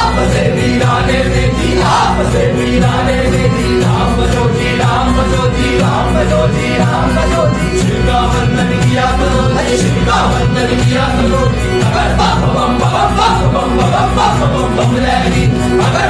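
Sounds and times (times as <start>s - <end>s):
acoustic guitar: 0.0s - 16.0s
keyboard: 0.0s - 16.0s
men singing together: 0.0s - 16.0s.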